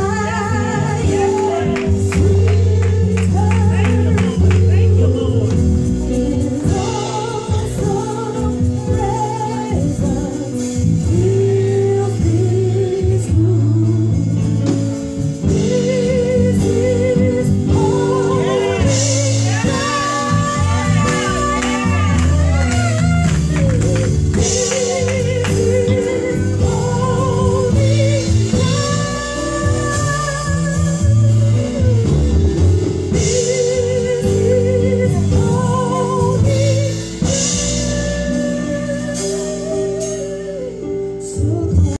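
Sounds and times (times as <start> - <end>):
women's gospel group singing: 0.0 - 14.3, 15.4 - 42.0
band with bass and drums: 0.0 - 42.0.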